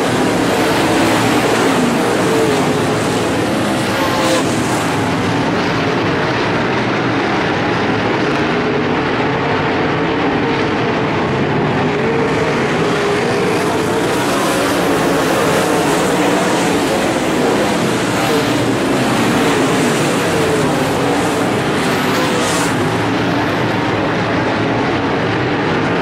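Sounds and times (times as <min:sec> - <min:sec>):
race car engines roaring: 0:00.0 - 0:26.0.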